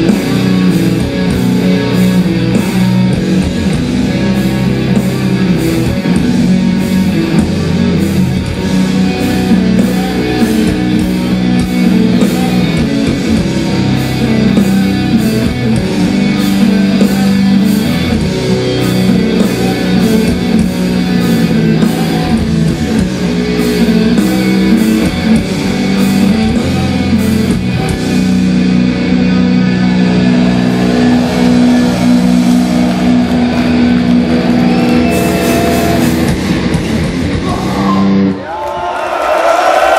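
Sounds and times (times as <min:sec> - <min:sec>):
bass guitar: 0:00.0 - 0:38.6
distorted electric guitars: 0:00.0 - 0:38.6.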